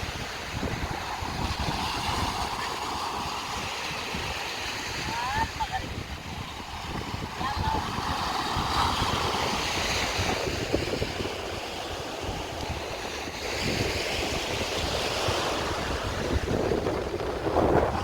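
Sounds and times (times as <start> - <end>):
sea waves washing onto beach: 0.0 - 18.0
wind buffeting microphone: 0.0 - 18.0.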